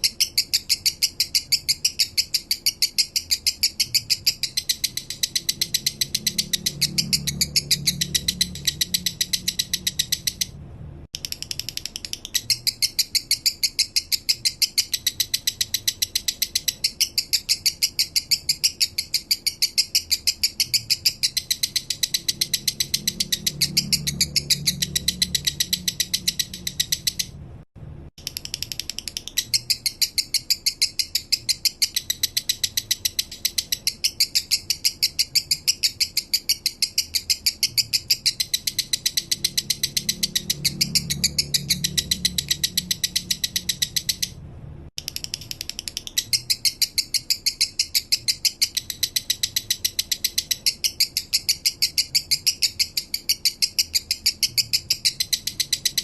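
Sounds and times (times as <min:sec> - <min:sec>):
lovebird chirping song: 0:00.0 - 0:10.6, 0:11.2 - 0:27.6, 0:28.2 - 0:44.4, 0:45.0 - 0:56.0.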